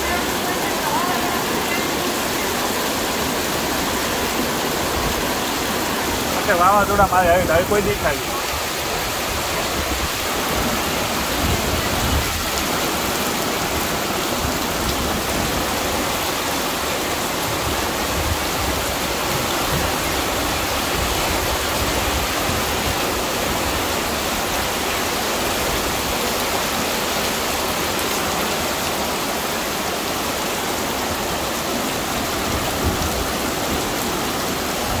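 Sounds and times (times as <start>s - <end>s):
floodwater rushing: 0.0s - 35.0s
heavy rain: 0.0s - 35.0s.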